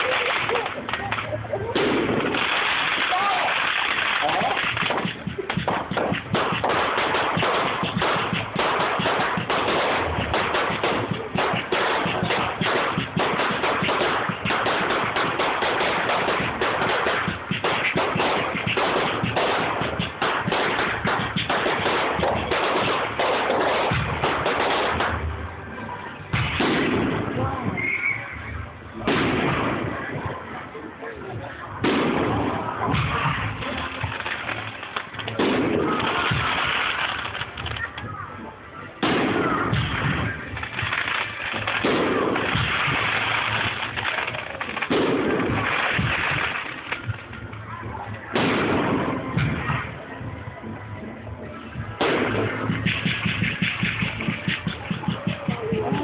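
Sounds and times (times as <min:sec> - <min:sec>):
fireworks crackling and banging: 0:00.0 - 0:56.0
music playing: 0:00.0 - 0:56.0.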